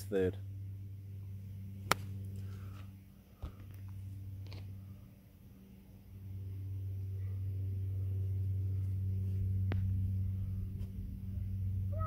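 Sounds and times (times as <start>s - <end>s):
steady low pitched hum: 0.0s - 12.0s.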